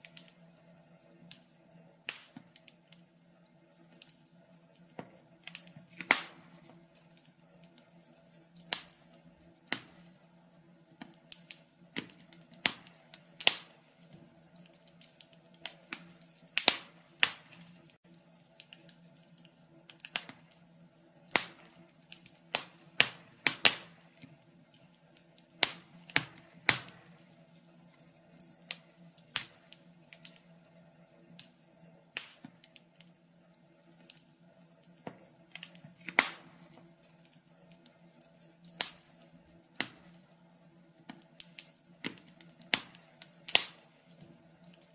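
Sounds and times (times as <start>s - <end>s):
fire crackling: 0.0s - 44.9s
fire popping and snapping: 0.0s - 44.9s.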